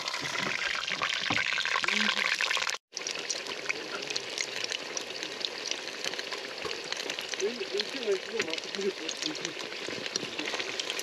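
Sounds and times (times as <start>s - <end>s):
pastries sizzling in hot oil: 0.0s - 11.0s.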